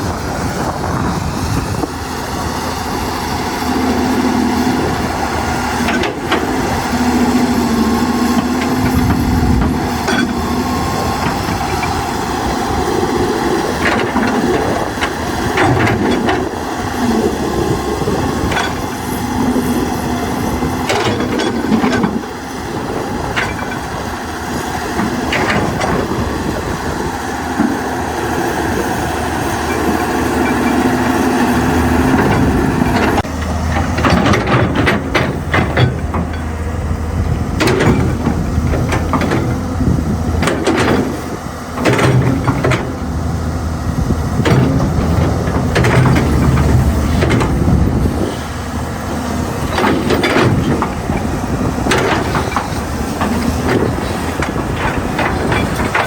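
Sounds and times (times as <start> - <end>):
excavator engine humming: 0.0 - 56.0
knocks and clanks: 3.7 - 12.2, 13.5 - 22.4, 23.0 - 24.3, 24.9 - 26.9, 28.9 - 56.0.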